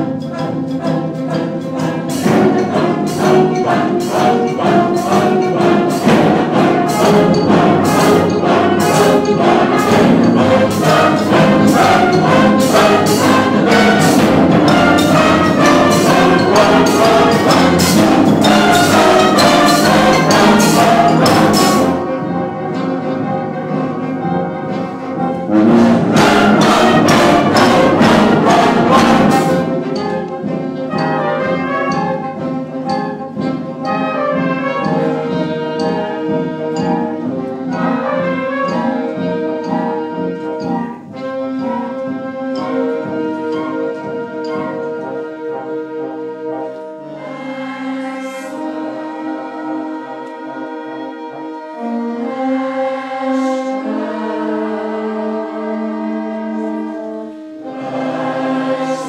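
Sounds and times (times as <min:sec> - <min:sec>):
brass band with drums: 0:00.0 - 0:59.0
choir singing: 0:00.0 - 0:59.0.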